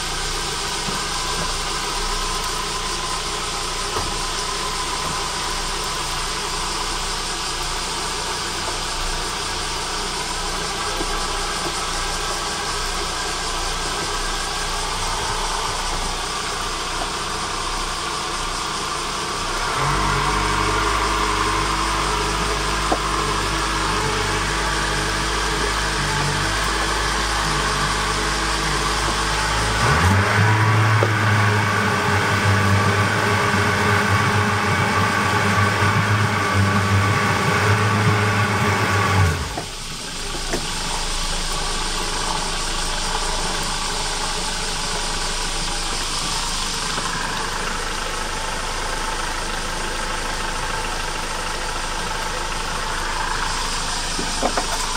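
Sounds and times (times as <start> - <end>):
outboard motor running: 0.0 - 54.9.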